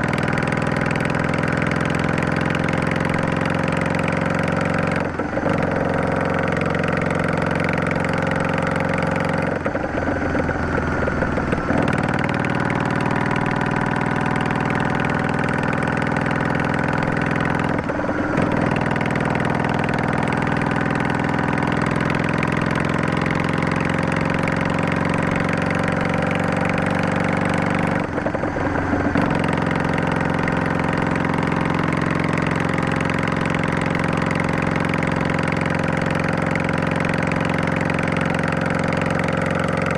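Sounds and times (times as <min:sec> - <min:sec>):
motorcycle exhaust: 0:00.0 - 0:39.9.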